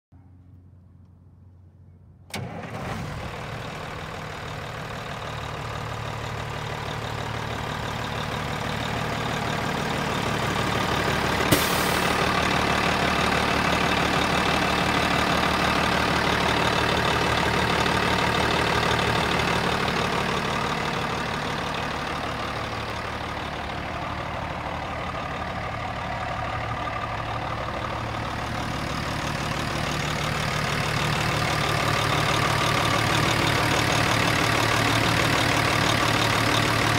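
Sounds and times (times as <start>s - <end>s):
diesel truck engine idling: 0.2s - 36.9s.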